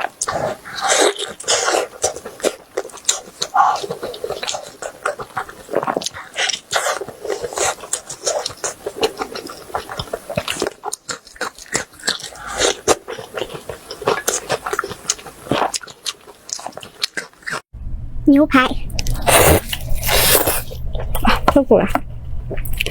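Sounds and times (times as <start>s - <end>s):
person chewing meat: 0.0s - 17.7s, 18.9s - 21.5s, 22.4s - 22.9s.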